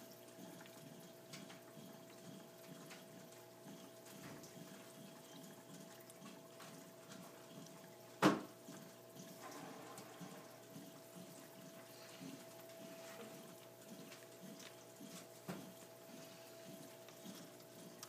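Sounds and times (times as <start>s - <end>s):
low pump hum: 0.0s - 18.0s
trickling water: 0.0s - 18.0s.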